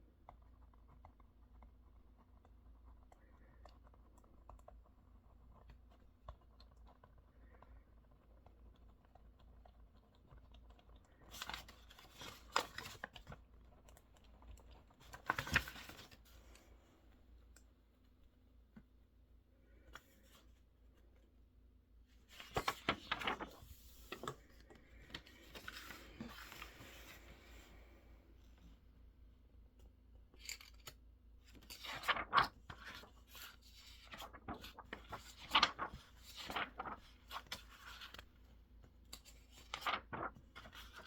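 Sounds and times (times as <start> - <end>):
faint room hum: 0.0 - 41.0.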